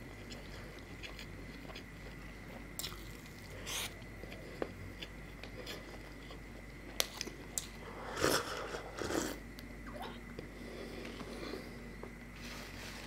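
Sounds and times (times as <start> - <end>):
person chewing soft food: 0.0 - 12.2.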